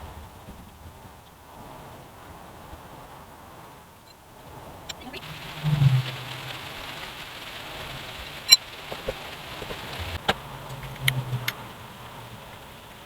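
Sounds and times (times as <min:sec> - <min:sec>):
steady hiss: 0:01.6 - 0:13.0.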